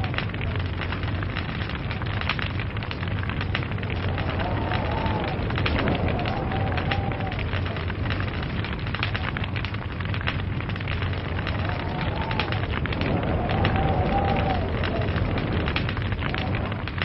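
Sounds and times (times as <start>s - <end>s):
log fire crackling and popping: 0.0s - 17.0s
low rumble: 0.0s - 17.0s.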